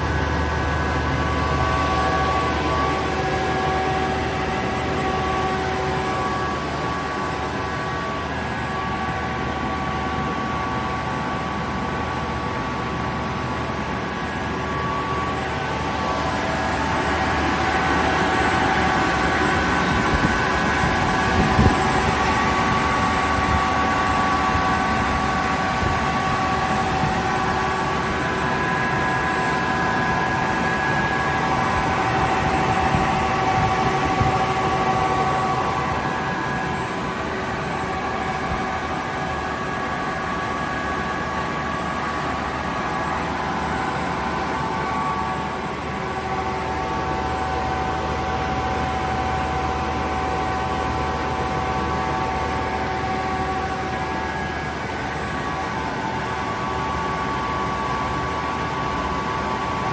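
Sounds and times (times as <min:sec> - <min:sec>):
air compressor running: 0:00.0 - 0:59.9
steady whining tones: 0:00.0 - 0:59.9.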